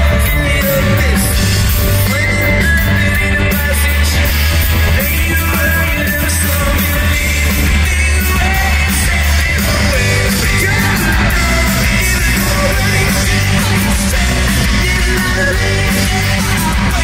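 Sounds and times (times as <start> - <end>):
person singing: 0.0 - 17.0
rock band playing live: 0.0 - 17.0.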